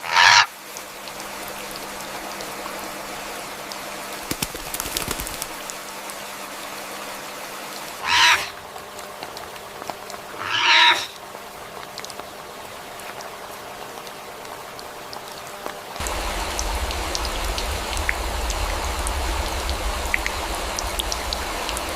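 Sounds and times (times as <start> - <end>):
heavy rain on foliage: 0.0 - 21.9
patter of drips: 0.5 - 10.4, 11.2 - 21.9.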